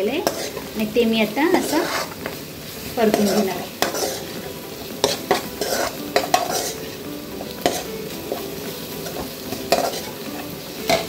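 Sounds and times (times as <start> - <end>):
food sizzling in oil: 0.0 - 11.0
metal spatula scraping pan: 0.1 - 11.0.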